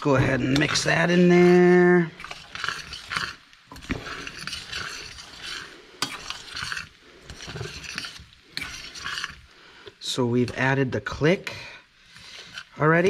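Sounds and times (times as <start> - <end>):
spoon scraping through food: 0.2 - 10.8, 12.0 - 13.0.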